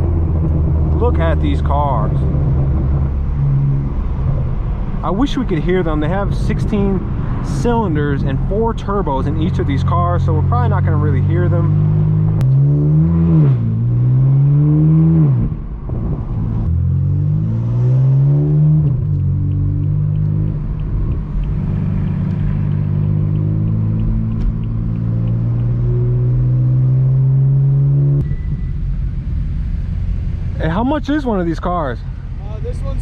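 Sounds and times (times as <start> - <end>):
car exhaust revving: 0.0 - 33.0.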